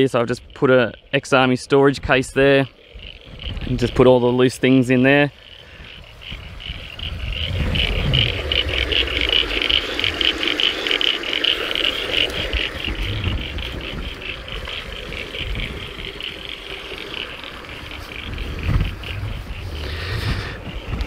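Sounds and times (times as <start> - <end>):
high pulsing chorus of calls: 0.0 - 21.0
wind buffeting microphone: 0.0 - 21.0.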